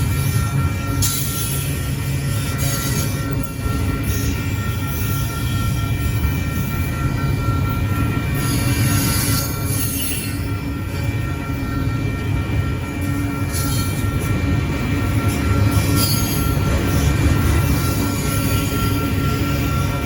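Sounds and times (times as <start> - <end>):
high-pitched wheel squeal: 0.0 - 11.7, 15.2 - 20.0
train rumbling past: 0.0 - 20.0.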